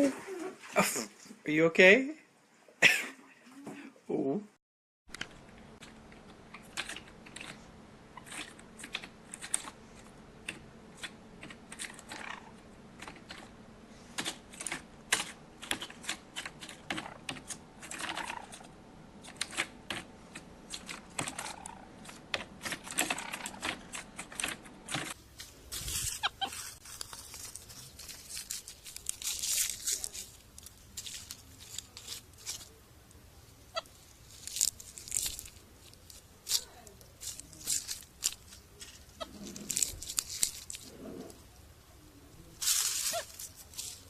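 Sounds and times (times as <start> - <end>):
faint low hum: 5.1 - 44.0.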